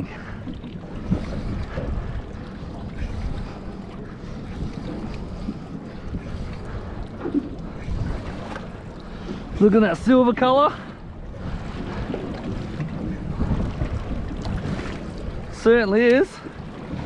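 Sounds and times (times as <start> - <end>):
low rumble: 0.0 - 15.6
water washing against hull: 0.0 - 17.0
wind buffeting microphone: 0.0 - 17.0.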